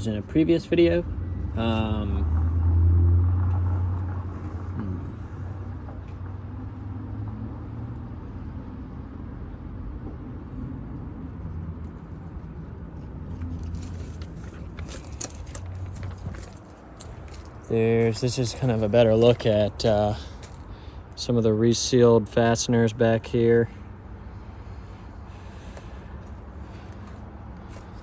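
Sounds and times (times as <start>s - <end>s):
low engine-like rumble: 0.0s - 28.0s.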